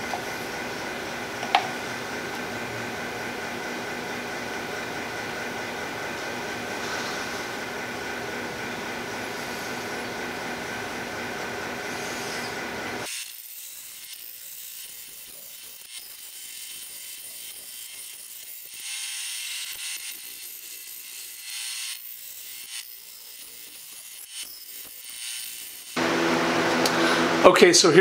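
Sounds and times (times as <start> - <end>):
bandsaw cutting wood: 2.5 - 27.7.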